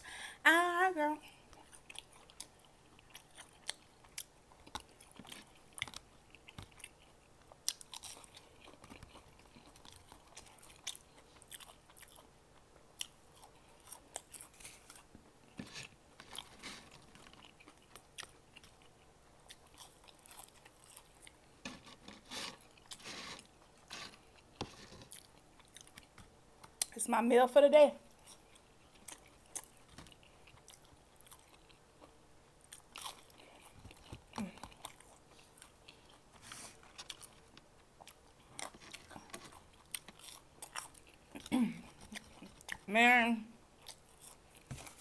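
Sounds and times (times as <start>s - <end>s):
person chewing food: 1.3s - 26.9s, 28.1s - 42.9s, 43.7s - 45.0s.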